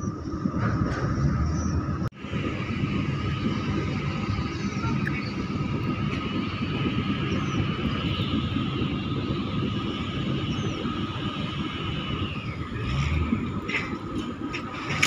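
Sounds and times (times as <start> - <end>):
ship engine low rumble: 0.0 - 15.0
thin steady hum: 1.5 - 15.0.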